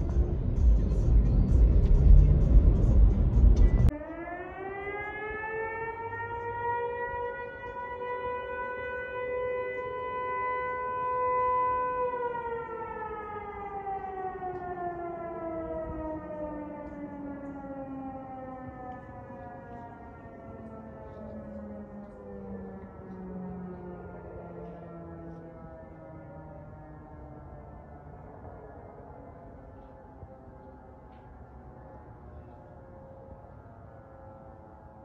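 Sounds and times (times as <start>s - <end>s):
two-tone warning siren wailing: 3.8s - 35.0s.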